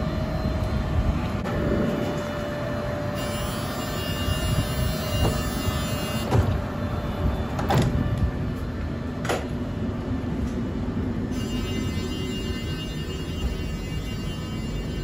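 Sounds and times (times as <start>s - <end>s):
tram equipment humming: 0.0s - 15.0s.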